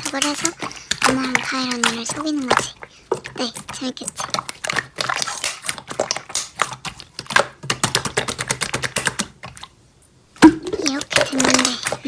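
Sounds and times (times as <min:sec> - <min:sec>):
slime clicking and crackling: 0:00.0 - 0:09.8.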